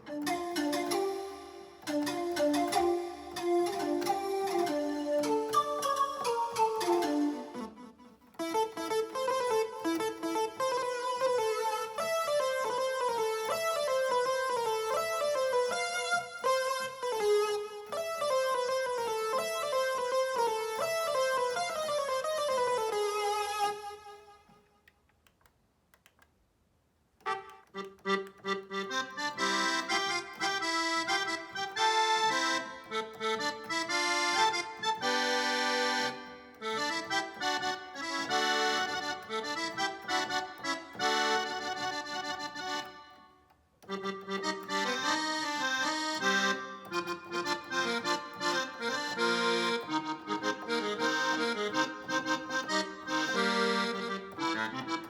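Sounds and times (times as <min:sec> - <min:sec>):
synthesizer accordion melody: 0:00.0 - 0:25.0, 0:27.2 - 0:55.0.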